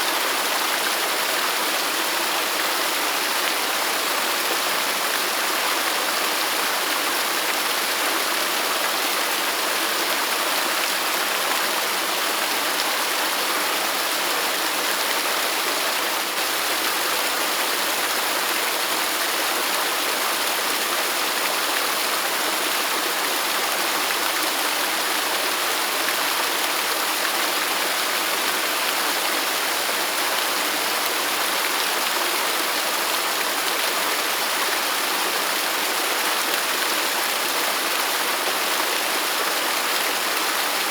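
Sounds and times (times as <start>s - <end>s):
waterfall rushing and splashing: 0.0s - 40.9s.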